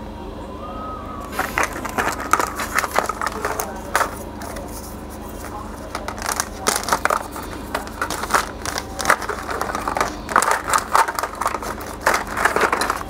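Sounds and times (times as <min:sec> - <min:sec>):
plastic packets rustling: 0:01.2 - 0:13.0.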